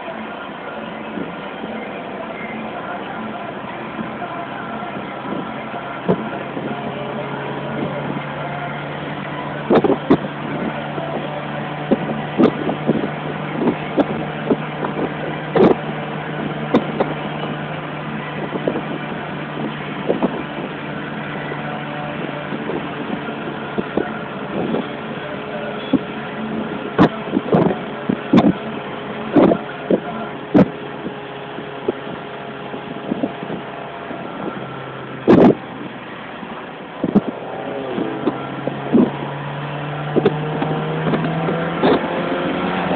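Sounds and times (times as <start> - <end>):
car engine running: 0.0 - 42.9
road and wind noise: 0.0 - 42.9.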